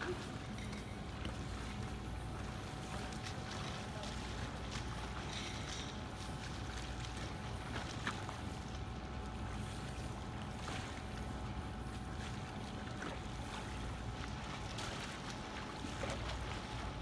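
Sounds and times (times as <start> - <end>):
swimmer splashing: 0.0 - 17.0.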